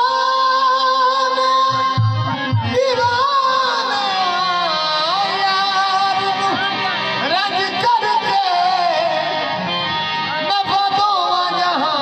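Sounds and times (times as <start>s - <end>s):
harmonium: 0.0s - 12.0s.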